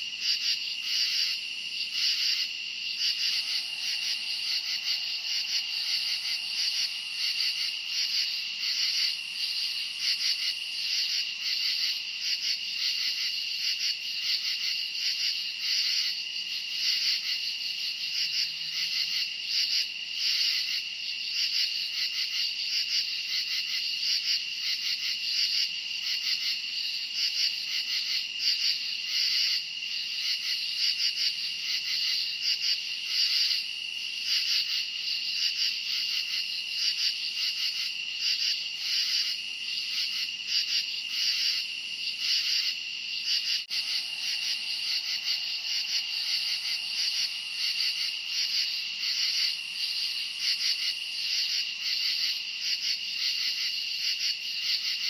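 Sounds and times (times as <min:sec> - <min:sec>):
crickets trilling: 0:00.0 - 0:17.5, 0:26.1 - 0:55.0
crickets chirping: 0:00.0 - 0:55.0.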